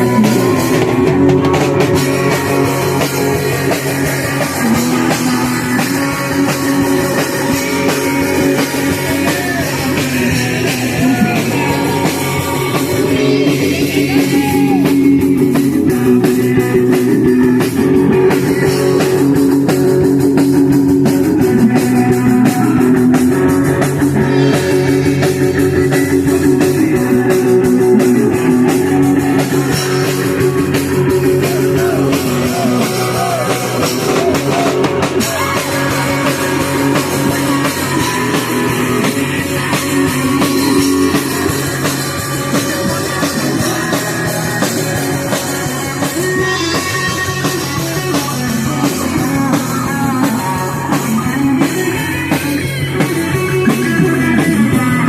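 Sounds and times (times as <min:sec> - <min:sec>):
punk rock band playing live: 0:00.0 - 0:55.0.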